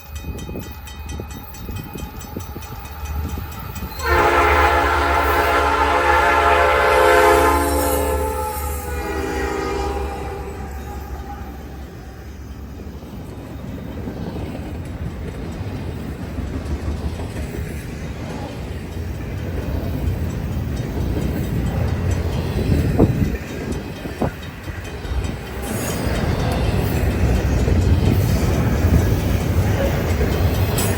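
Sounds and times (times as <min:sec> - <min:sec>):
freight train rumbling: 0:00.0 - 0:30.9.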